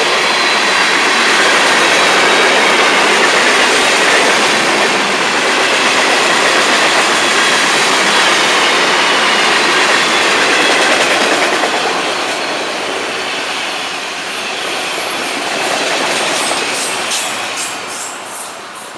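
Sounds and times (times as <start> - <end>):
freight train wheels rattling: 0.0 - 18.9.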